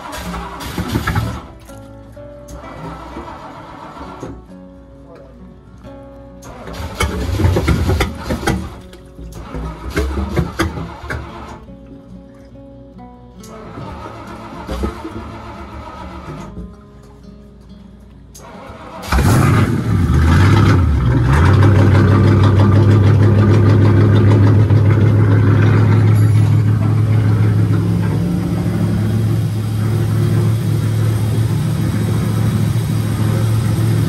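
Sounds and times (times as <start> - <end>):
boat engine starting and idling: 0.0 - 4.6, 5.9 - 12.8, 13.4 - 34.0.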